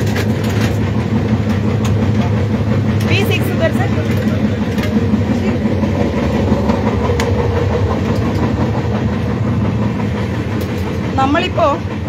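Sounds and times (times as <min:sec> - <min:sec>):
train wheels rumbling on rail: 0:00.0 - 0:12.0
wheel clicks on rail: 0:00.0 - 0:12.0.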